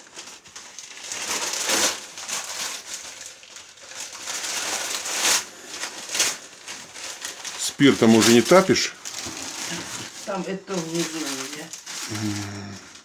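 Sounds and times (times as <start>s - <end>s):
paper being crumpled: 0.0s - 13.0s.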